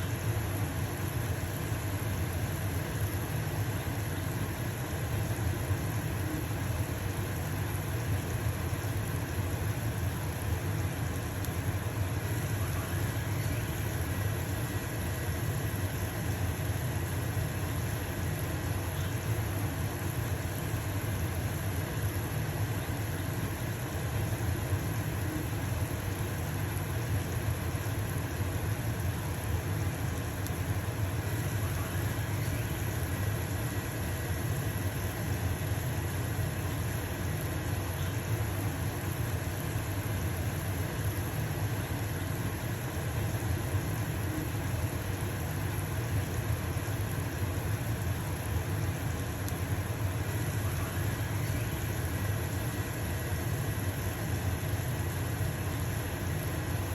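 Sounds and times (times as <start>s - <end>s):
range hood fan humming: 0.0s - 56.9s.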